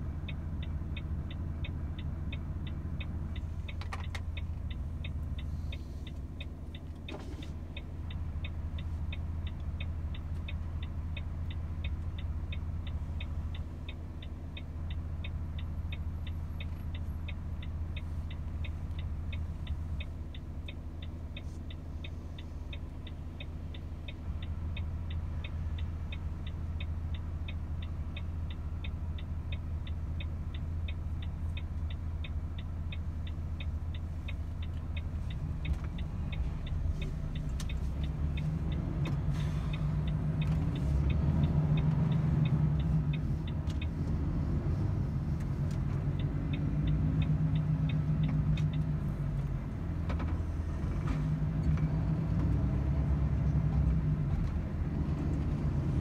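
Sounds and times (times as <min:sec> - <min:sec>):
diesel truck engine running: 0:00.0 - 0:56.0
turn signal indicator ticking: 0:00.0 - 0:56.0.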